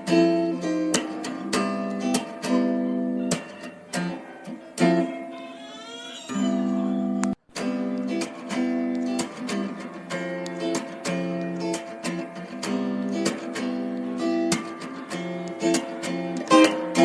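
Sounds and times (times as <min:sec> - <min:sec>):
acoustic guitar strumming: 0:00.0 - 0:05.6, 0:06.3 - 0:17.0.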